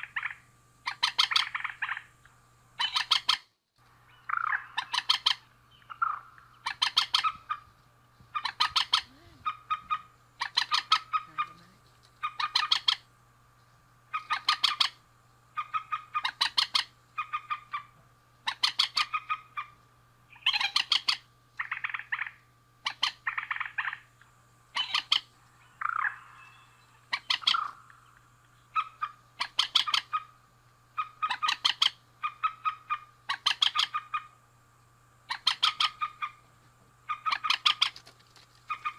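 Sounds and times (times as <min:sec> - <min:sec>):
rail bird rattling calls: 0:00.0 - 0:02.1, 0:02.8 - 0:03.4, 0:04.1 - 0:07.6, 0:08.3 - 0:13.1, 0:14.1 - 0:34.4, 0:35.3 - 0:36.4, 0:37.0 - 0:38.9
faint steady hum: 0:00.0 - 0:38.9.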